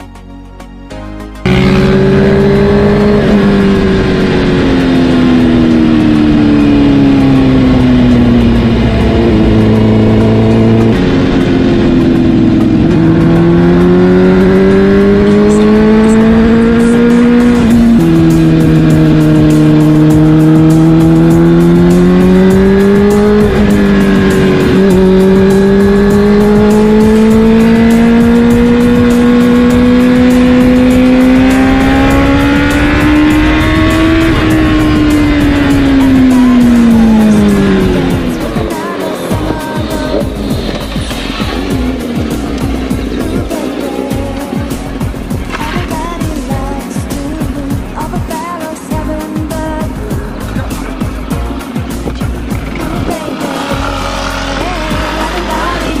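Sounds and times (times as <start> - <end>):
motorcycle engine revving: 1.4 - 56.0.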